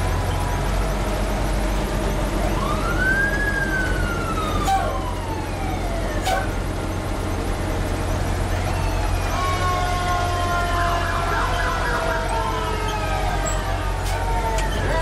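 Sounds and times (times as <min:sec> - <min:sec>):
fire engine motor drone: 0:00.0 - 0:15.0
fire truck siren: 0:00.0 - 0:15.0.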